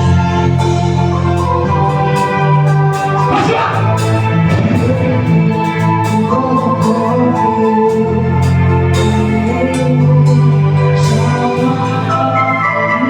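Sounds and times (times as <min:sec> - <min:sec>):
organ-like keyboard chords: 0:00.0 - 0:13.0.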